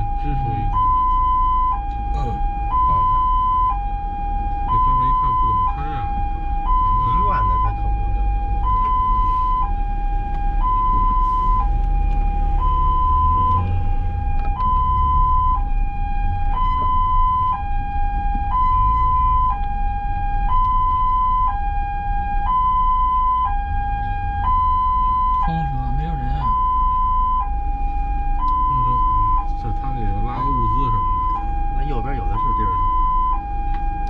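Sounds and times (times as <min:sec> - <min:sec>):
ambulance two-tone siren: 0:00.0 - 0:34.0
vehicle and road rumble: 0:00.0 - 0:34.0.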